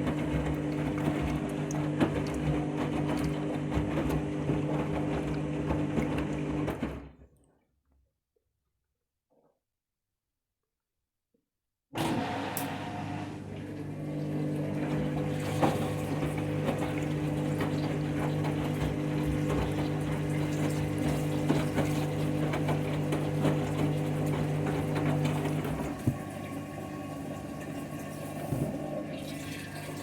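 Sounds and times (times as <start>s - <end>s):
washing machine running: 0.0s - 7.3s, 12.0s - 30.0s.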